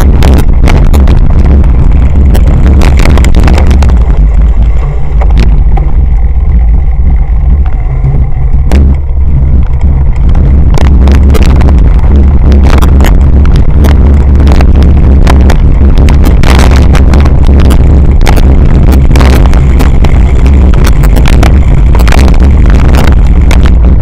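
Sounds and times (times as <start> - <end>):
bike rattling over bumps: 0.0 - 24.0
wind buffeting: 0.0 - 24.0.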